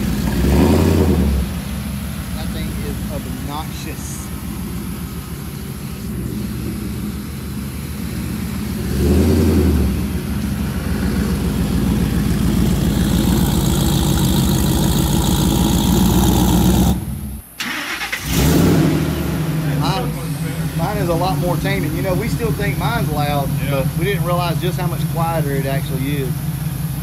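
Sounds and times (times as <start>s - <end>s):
supercharged truck engine revving: 0.0s - 27.0s.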